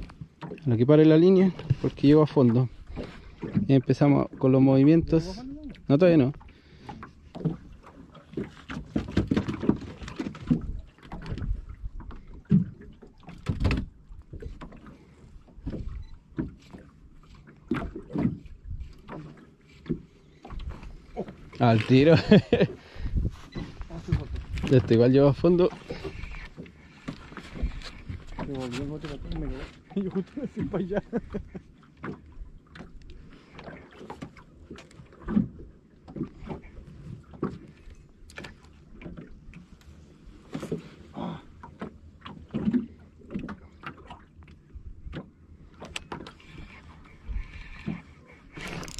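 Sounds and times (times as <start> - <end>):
water slapping against boat hull: 0.0 - 48.9.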